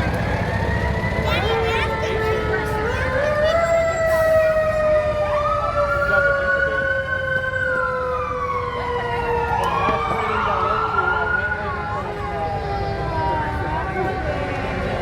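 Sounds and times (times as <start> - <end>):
emergency sirens wailing: 0.0 - 15.0.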